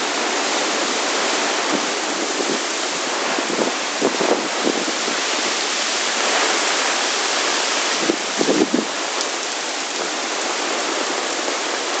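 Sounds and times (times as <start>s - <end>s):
heavy rain in strong wind: 0.0s - 12.0s.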